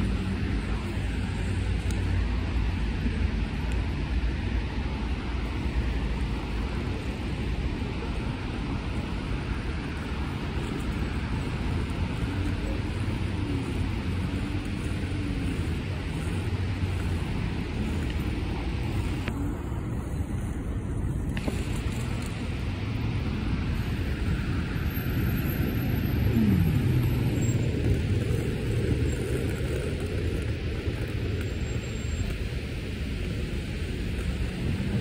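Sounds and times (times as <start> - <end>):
low traffic rumble: 0.0 - 35.0.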